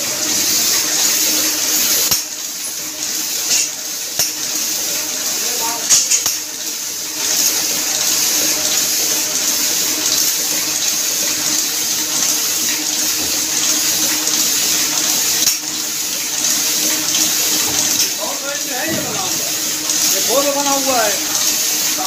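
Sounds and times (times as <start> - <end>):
printing press whirring: 0.0 - 22.0.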